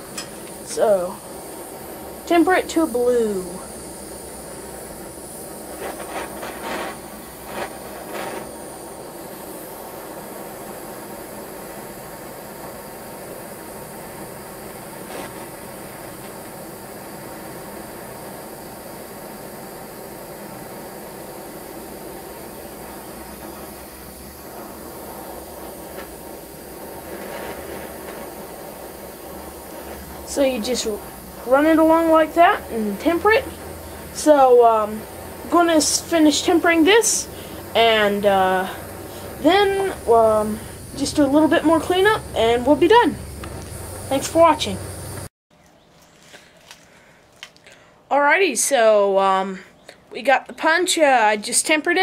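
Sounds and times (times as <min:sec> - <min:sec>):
gas torch flame hissing: 0:00.0 - 0:45.3.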